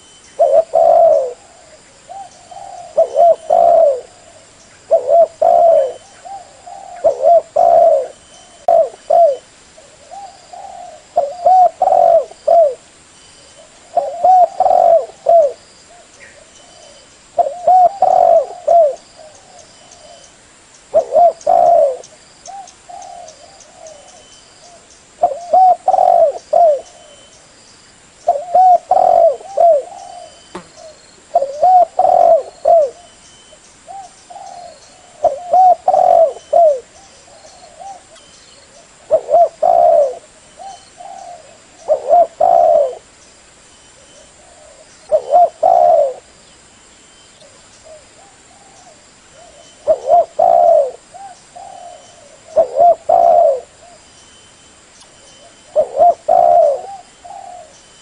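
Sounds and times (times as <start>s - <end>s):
dove cooing: 0.0s - 12.8s, 13.6s - 20.3s, 20.9s - 27.3s, 28.2s - 33.2s, 33.9s - 43.1s, 44.0s - 46.4s, 47.4s - 54.1s, 55.2s - 57.9s.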